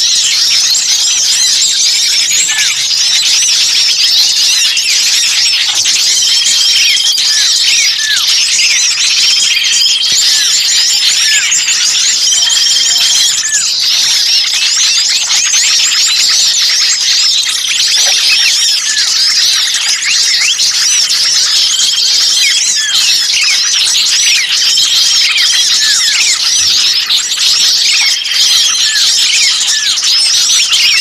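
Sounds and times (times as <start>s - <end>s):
high bird whistles: 0.0s - 31.0s
songbirds chirping and twittering: 0.0s - 31.0s.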